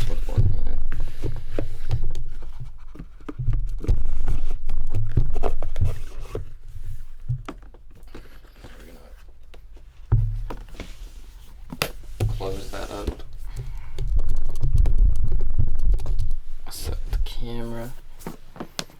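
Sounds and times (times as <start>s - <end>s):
low thumps: 0.0s - 8.2s, 9.3s - 18.9s
packs rustling and scraping: 0.0s - 15.1s, 16.1s - 18.9s.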